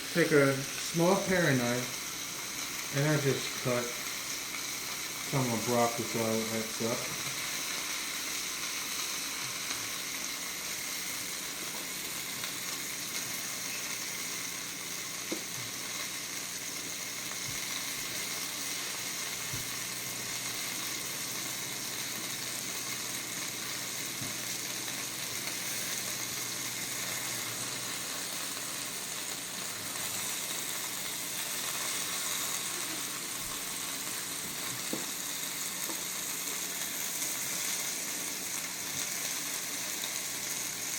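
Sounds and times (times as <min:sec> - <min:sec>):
chicken sizzling in a frying pan: 0:00.0 - 0:40.9.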